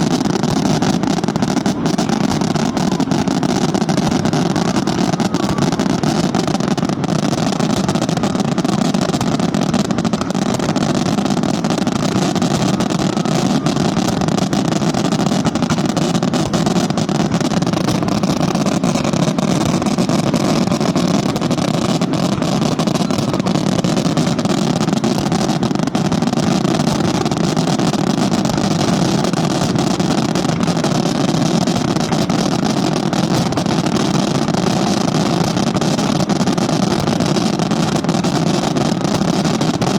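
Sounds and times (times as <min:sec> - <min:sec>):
rapid firework bangs: 0:00.0 - 0:39.9.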